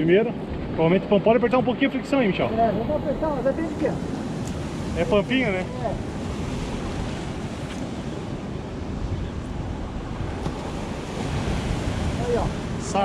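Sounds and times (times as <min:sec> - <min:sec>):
sea surf on rocky shore: 0:00.0 - 0:13.0
wind buffeting microphone: 0:00.0 - 0:13.0.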